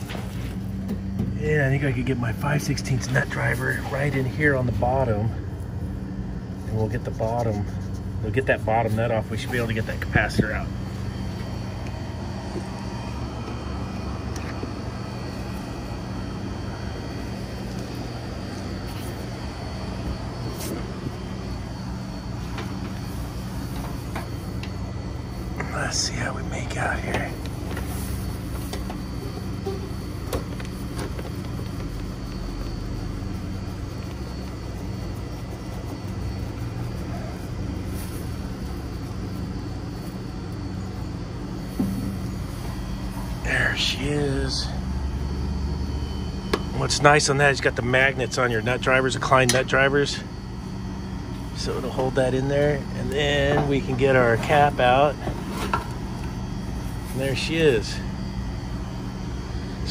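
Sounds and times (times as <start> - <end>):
low machinery hum: 0.0 - 59.9
low mechanical drone: 0.0 - 59.9.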